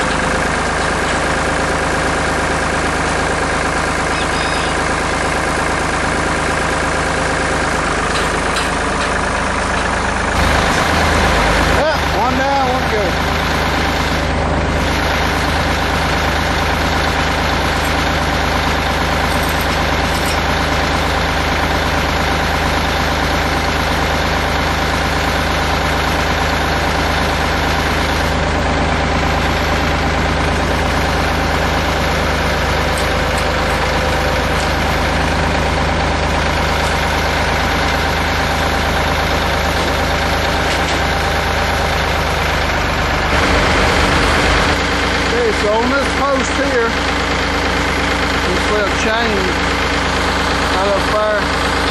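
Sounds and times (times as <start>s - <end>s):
tractor engine idling: 0.0s - 51.9s.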